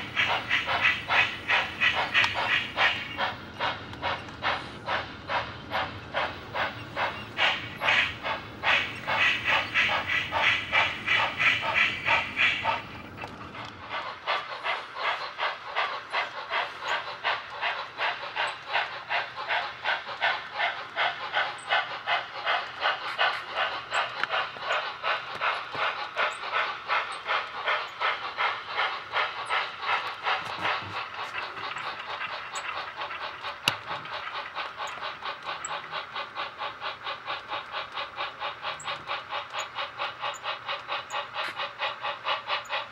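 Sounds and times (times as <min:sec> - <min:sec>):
model locomotive chuffing: 0:00.0 - 0:42.9.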